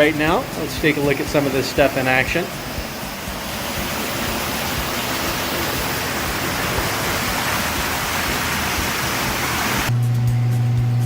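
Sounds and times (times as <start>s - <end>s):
water rushing and splashing: 0.0s - 9.9s.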